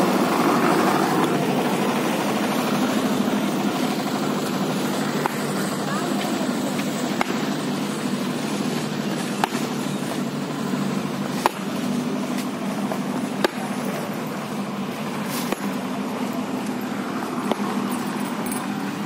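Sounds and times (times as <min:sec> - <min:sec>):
concrete mixer engine running: 0:00.0 - 0:19.0.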